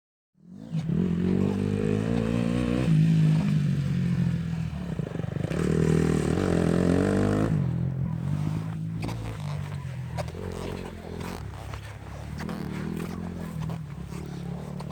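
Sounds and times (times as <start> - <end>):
dirt bike engine revving: 0.4 - 14.9.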